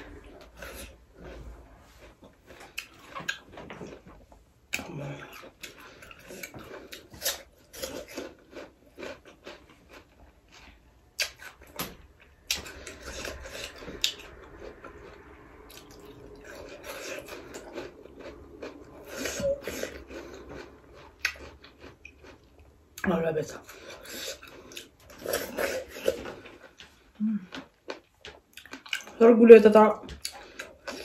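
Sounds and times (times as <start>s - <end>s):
soft chewing: 0.0s - 29.2s, 29.9s - 31.0s.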